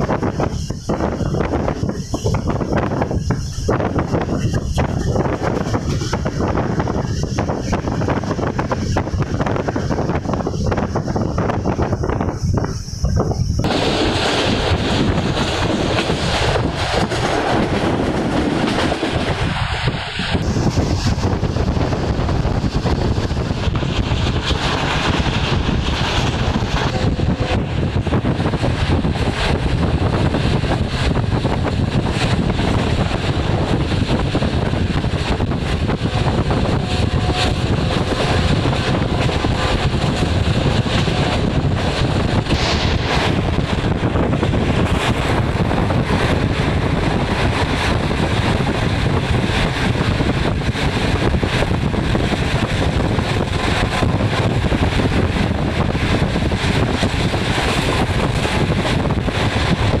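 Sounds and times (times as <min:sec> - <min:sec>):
moving train rumble: 0:00.0 - 1:00.0
wind buffeting microphone: 0:00.0 - 1:00.0.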